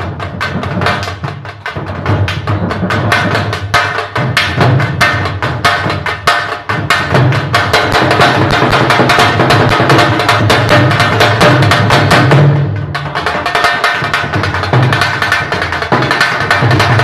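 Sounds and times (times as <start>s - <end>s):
barrel drum played fast: 0.0s - 17.0s.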